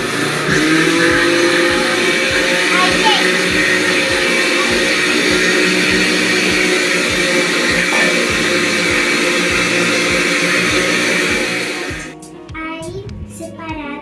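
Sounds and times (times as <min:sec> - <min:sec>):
electric blender running: 0:00.0 - 0:12.2.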